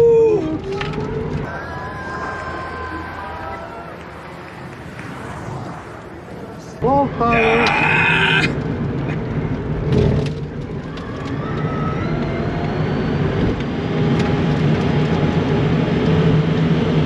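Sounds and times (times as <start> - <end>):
tyre road and wind noise: 0.0 - 17.0.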